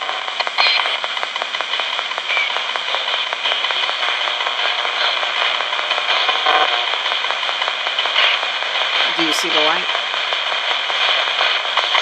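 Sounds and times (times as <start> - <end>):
radio static hiss: 0.0 - 12.0
radio tuning clicks: 0.0 - 12.0.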